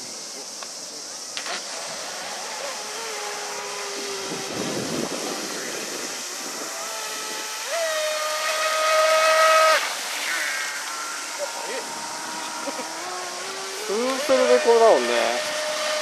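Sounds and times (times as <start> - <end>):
water spray hiss: 0.0 - 16.0
electric motor whining: 1.4 - 16.0.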